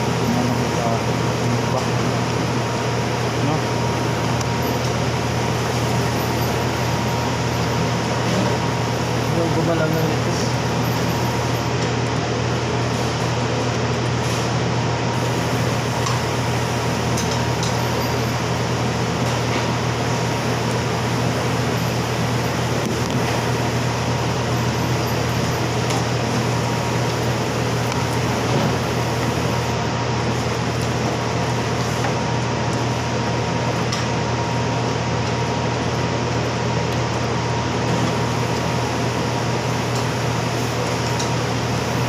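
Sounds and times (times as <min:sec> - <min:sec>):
mechanical hum and hiss: 0:00.0 - 0:42.0.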